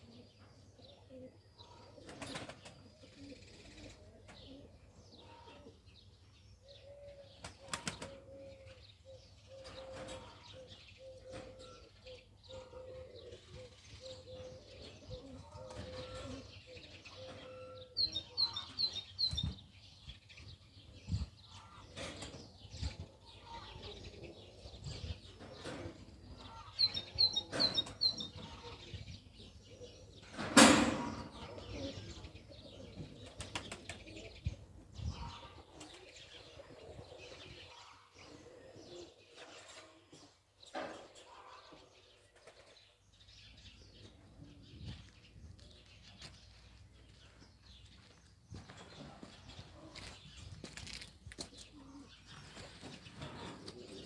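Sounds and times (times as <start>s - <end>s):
pigeons cooing: 0.0s - 5.9s, 6.6s - 19.4s, 20.7s - 43.0s, 43.6s - 45.8s, 48.0s - 54.0s.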